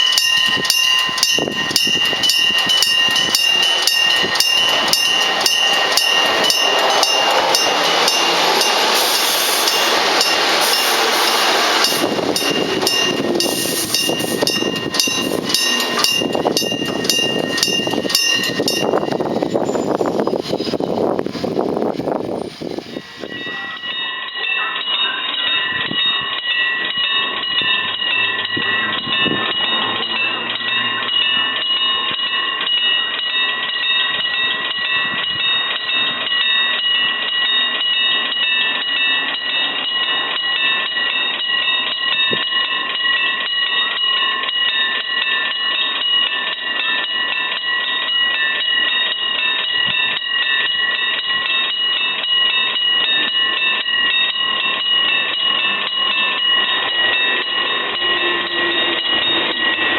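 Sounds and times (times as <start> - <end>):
level crossing bell ringing: 0.0 - 20.4, 23.2 - 59.9.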